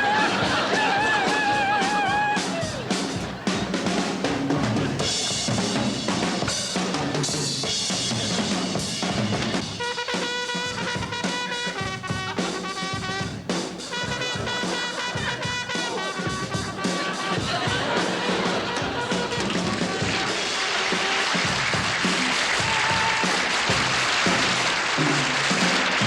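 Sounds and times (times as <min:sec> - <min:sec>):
frantic drumming on drum kit: 0:00.0 - 0:26.0.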